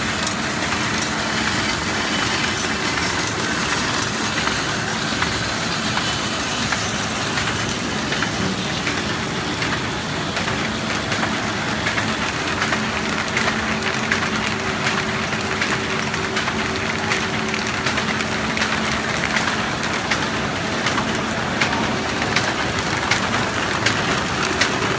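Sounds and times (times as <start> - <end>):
machine clattering with quick ticks: 0.0 - 24.9.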